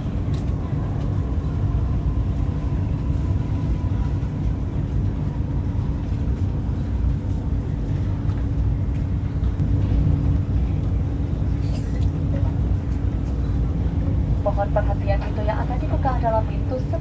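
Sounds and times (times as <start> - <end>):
train cabin rumble and hum: 0.0 - 17.0.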